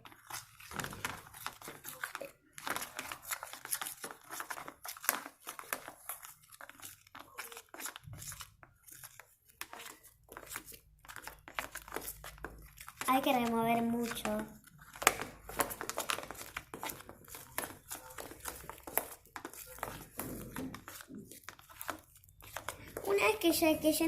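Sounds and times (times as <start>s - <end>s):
slime stirring squishes: 0.0s - 24.0s.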